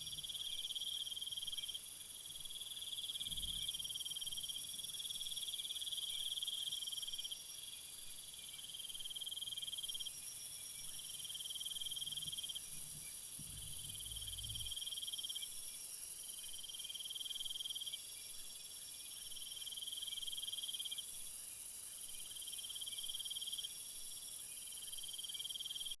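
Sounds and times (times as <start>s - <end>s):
insect trill: 0.0s - 26.0s.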